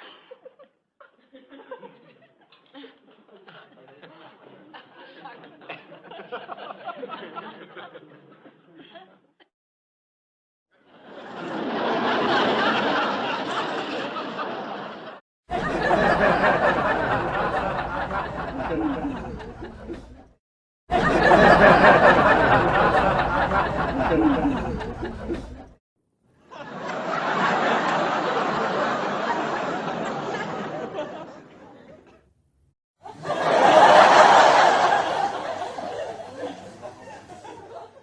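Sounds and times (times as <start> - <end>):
audience laughter: 0.1 - 9.2, 10.8 - 25.8, 26.5 - 32.3, 33.0 - 38.0.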